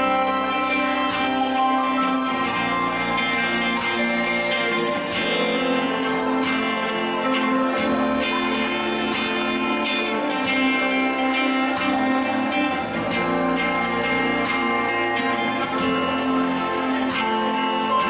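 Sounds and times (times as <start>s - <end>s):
worship band music: 0.0s - 18.0s.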